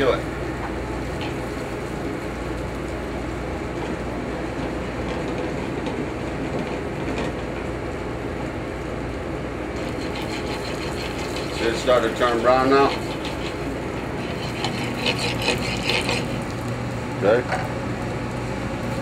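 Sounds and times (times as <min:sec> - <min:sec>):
low rumble of kitchen noise: 0:00.0 - 0:19.0.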